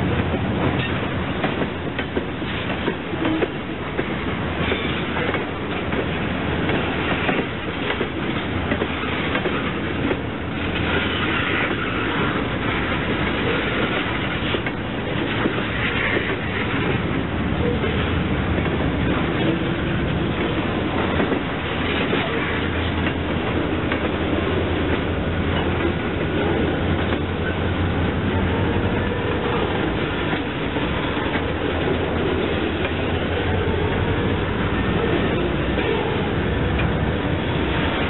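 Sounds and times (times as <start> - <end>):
train wheels rumbling and clattering: 0.0 - 38.0
wheels clicking over rail joints: 0.0 - 38.0.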